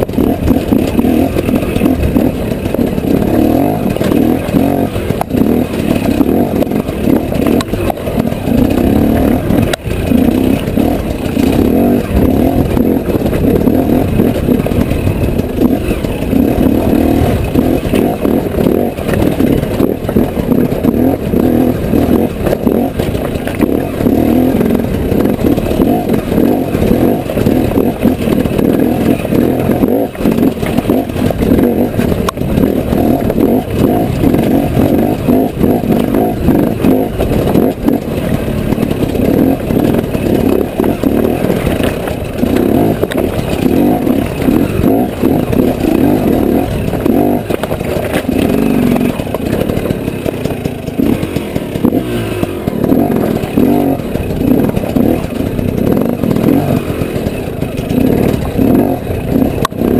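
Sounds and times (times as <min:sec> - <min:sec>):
motorcycle engine under throttle: 0:00.0 - 0:59.9.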